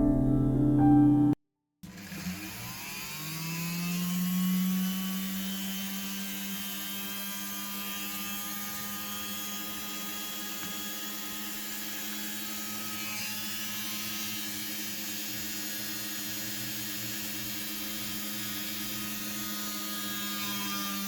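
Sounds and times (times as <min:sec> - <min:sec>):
electric rotary tool whining: 0:01.9 - 0:21.0.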